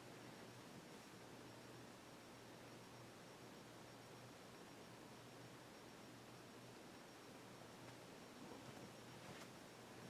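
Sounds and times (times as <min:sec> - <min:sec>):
ceiling fan hum and hiss: 0:00.0 - 0:10.0.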